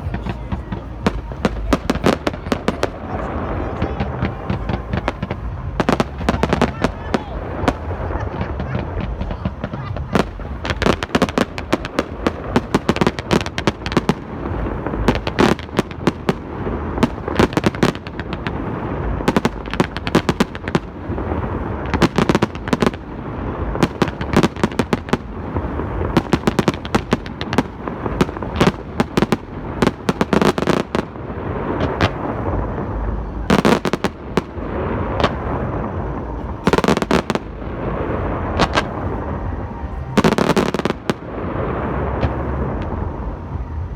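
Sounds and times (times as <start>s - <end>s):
fireworks bangs and cracks: 0.0s - 43.9s
low rumble: 0.0s - 43.9s.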